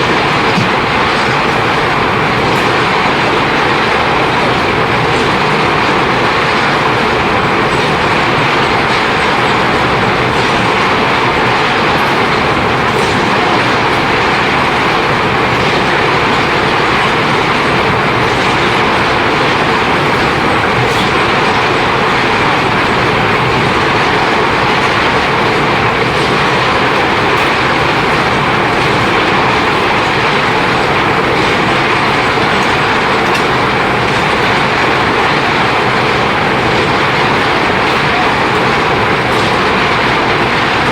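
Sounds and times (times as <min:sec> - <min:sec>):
milling machinery rattling: 0:00.0 - 0:40.9.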